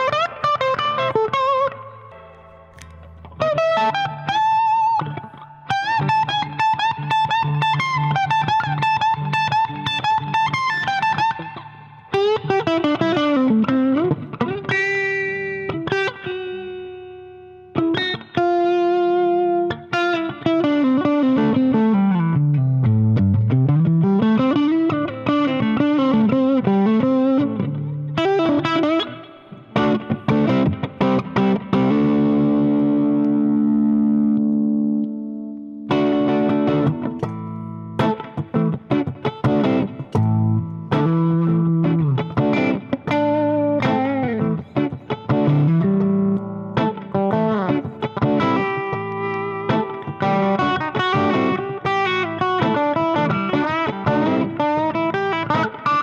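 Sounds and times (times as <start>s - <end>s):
overdriven electric guitar: 0.0s - 56.0s.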